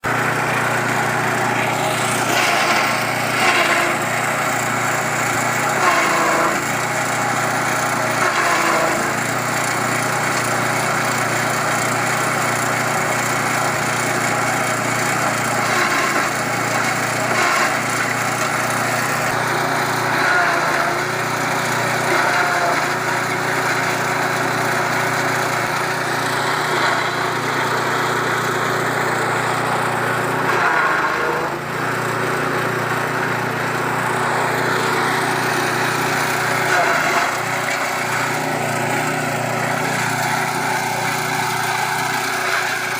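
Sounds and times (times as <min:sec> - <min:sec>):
chaff cutter machine running: 0:00.0 - 0:42.9.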